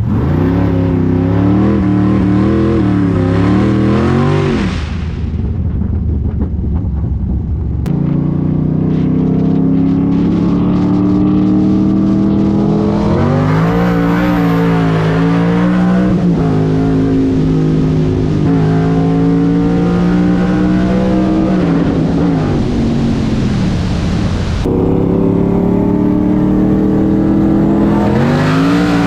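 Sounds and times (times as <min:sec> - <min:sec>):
car engine running: 0:05.3 - 0:29.0.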